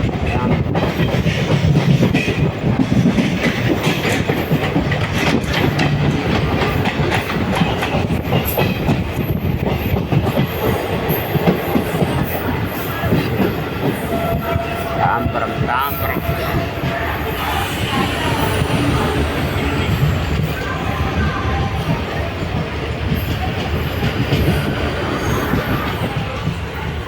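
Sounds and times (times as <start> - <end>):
train wheels clattering on rails: 0.0 - 27.0.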